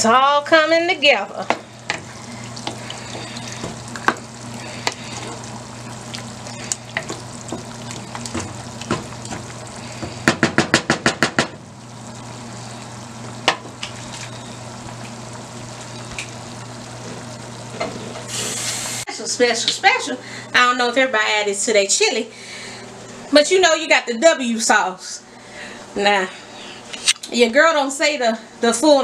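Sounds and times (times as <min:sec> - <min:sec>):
steady low hum: 0:00.0 - 0:23.4
low sizzle from pot: 0:00.0 - 0:27.1.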